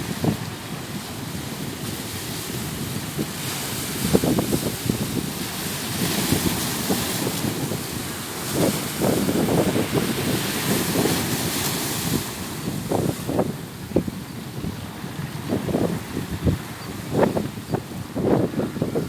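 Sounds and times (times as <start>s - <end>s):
sea surf washing in: 0.0s - 19.0s
wind rumbling on microphone: 0.0s - 19.0s.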